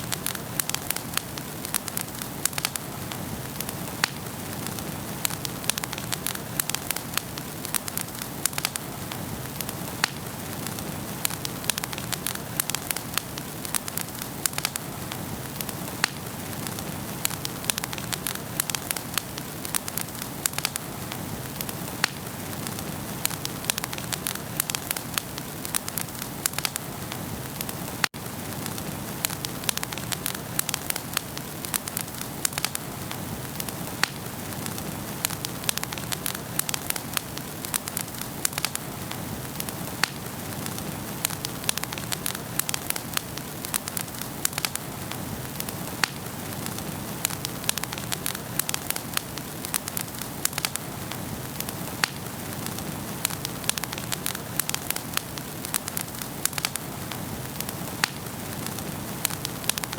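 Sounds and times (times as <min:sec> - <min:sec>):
fire hiss: 0:00.0 - 0:59.9
wood fire crackling and popping: 0:00.0 - 0:59.9.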